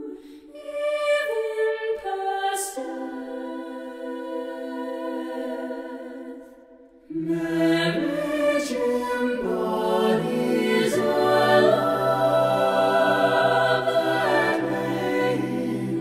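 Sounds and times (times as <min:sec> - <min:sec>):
mixed choir singing a cappella: 0:00.0 - 0:16.0.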